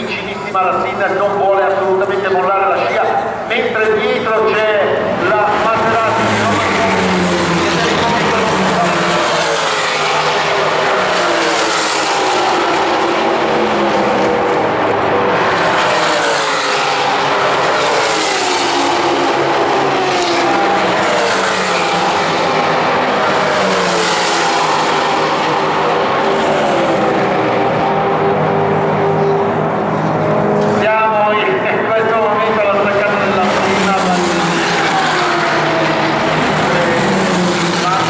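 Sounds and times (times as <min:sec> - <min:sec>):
race cars passing at speed: 0:00.0 - 0:38.0.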